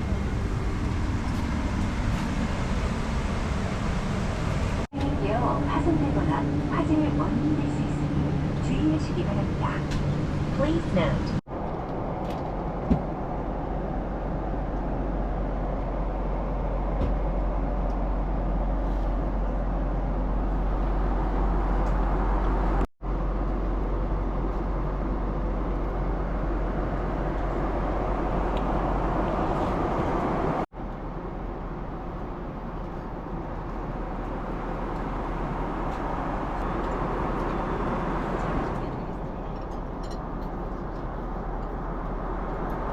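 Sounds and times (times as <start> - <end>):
airliner cabin noise: 0.0 - 42.9.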